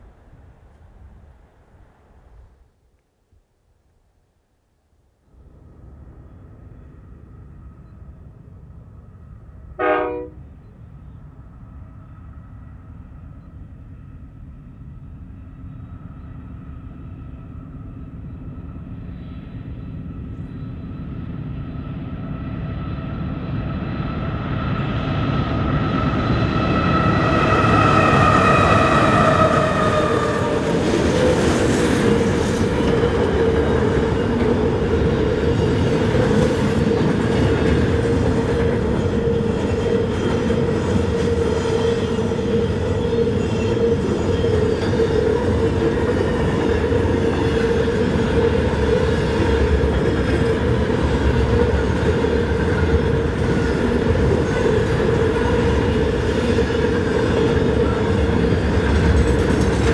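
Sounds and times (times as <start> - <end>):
locomotive engine drone: 5.3 - 59.9.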